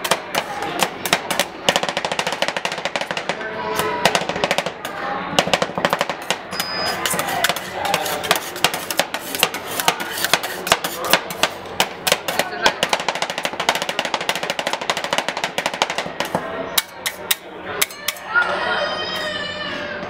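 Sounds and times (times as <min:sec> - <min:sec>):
metal spatulas chopping on metal plate: 0:00.0 - 0:03.4, 0:05.4 - 0:18.3.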